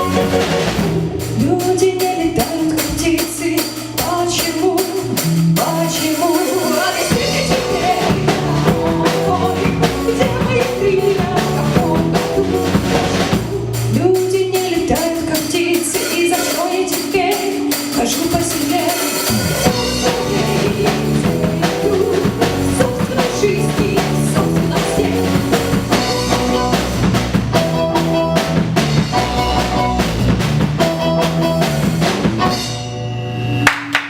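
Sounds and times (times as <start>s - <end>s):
bass line: 0.0s - 15.6s, 18.0s - 33.8s
drum kit: 0.0s - 34.0s.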